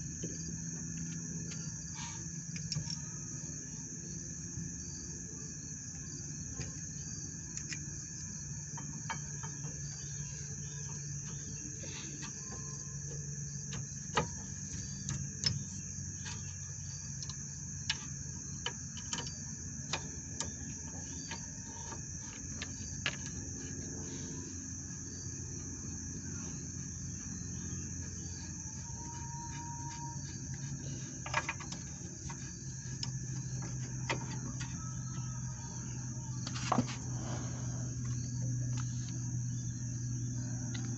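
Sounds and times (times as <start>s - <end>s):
crickets chirping: 0.0s - 40.9s
low steady hum: 0.0s - 40.9s.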